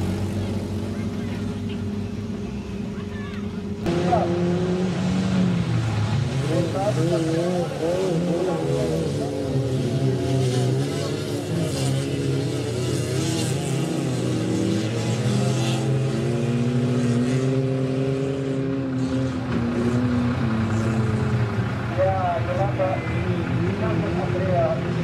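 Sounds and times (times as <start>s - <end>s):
racing car engines revving: 0.0s - 25.0s.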